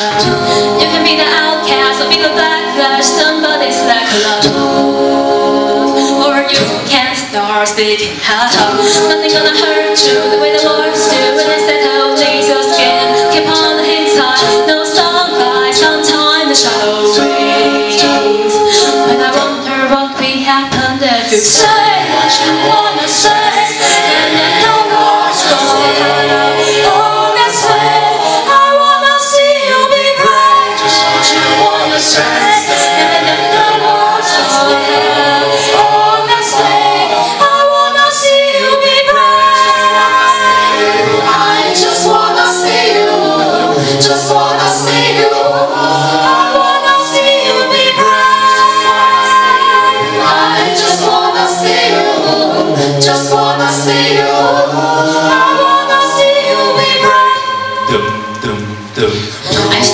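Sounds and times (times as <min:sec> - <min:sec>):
vocal percussion beat: 0:00.0 - 0:29.0, 0:39.9 - 0:59.9
a cappella group singing in harmony: 0:00.0 - 0:59.9.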